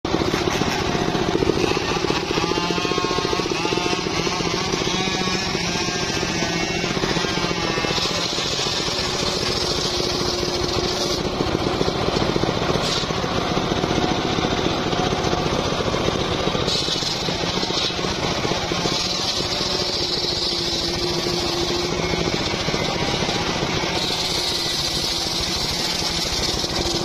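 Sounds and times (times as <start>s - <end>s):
sawmill machinery droning: 0.0s - 27.0s
saw blade cutting hiss: 0.1s - 27.0s.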